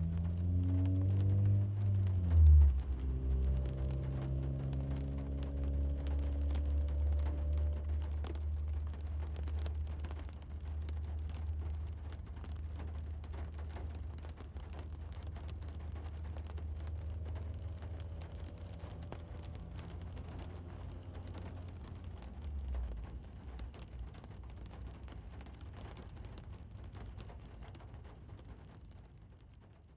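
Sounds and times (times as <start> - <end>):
distant traffic rumble: 0.0 - 29.9
rain pattering on car roof: 0.0 - 29.9.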